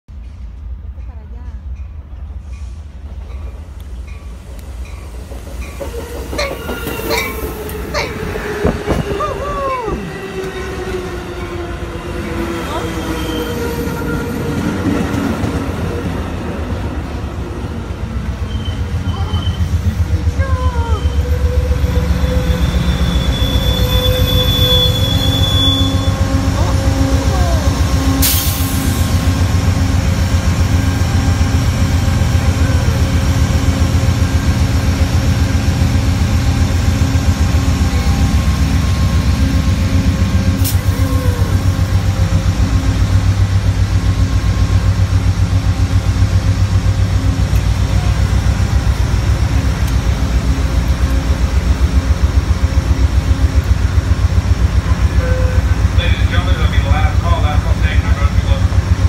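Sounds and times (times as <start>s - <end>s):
diesel locomotive idling: 0.2s - 59.0s.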